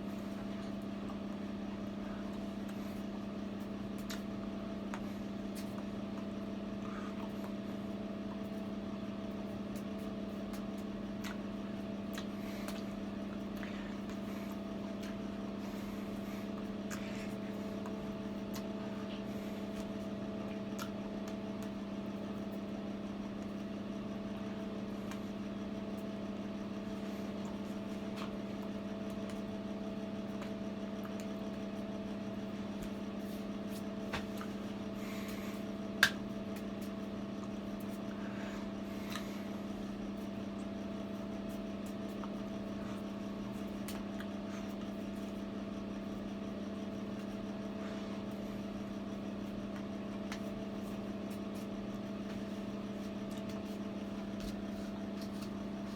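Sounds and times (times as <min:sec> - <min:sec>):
steady machine hum: 0:00.0 - 0:55.9.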